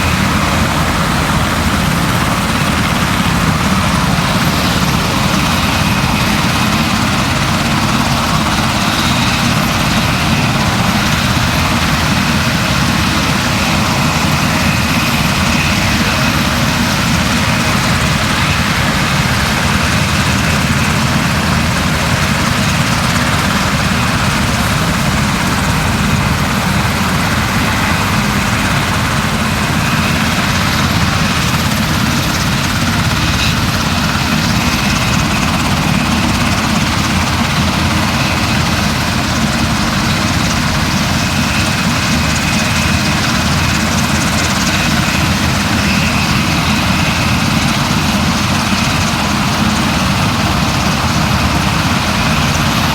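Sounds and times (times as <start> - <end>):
loud engine drone: 0.0 - 52.9.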